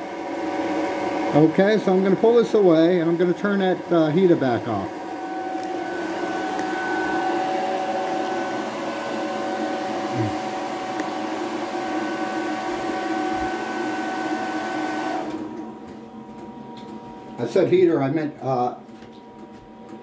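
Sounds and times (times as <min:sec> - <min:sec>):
hair dryer blowing: 0:00.0 - 0:16.1.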